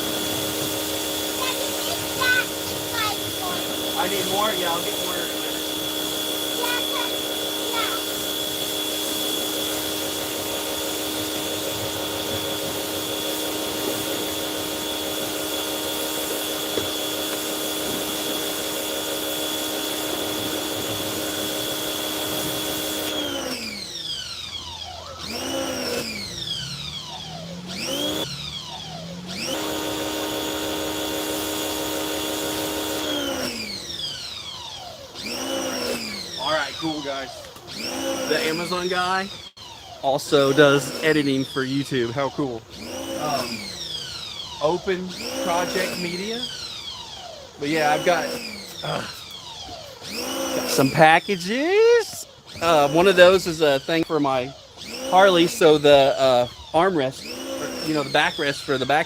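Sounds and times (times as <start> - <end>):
pressure washer motor running: 0.0 - 59.0.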